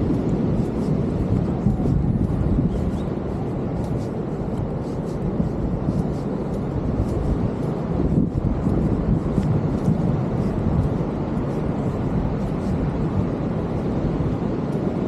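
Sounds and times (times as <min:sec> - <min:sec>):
footsteps on sand: 0:00.0 - 0:15.0
wind on microphone: 0:00.0 - 0:15.0.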